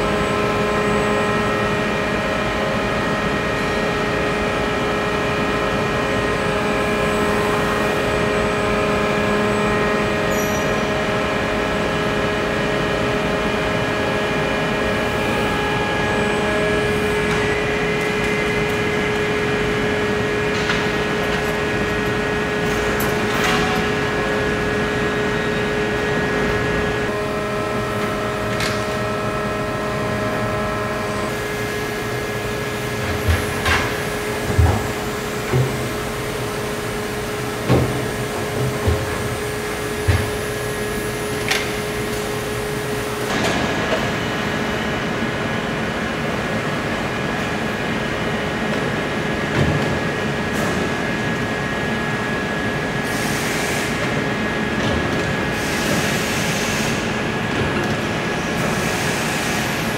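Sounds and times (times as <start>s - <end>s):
machine hum with steady tones: 0.0s - 59.9s.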